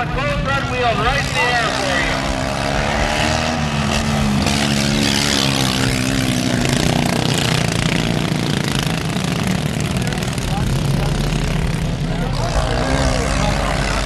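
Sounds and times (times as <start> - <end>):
small racing engines: 0.0 - 14.0.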